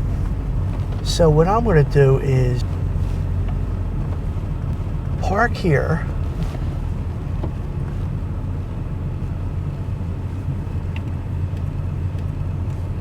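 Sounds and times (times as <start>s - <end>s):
truck engine rumbling: 0.0s - 10.6s
road noise: 0.0s - 13.0s.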